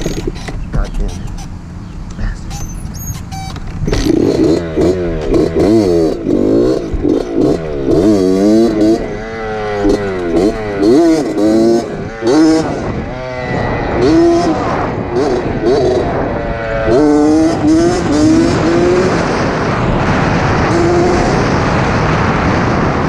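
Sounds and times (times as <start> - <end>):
dirt bike engine revving: 2.6 - 23.0.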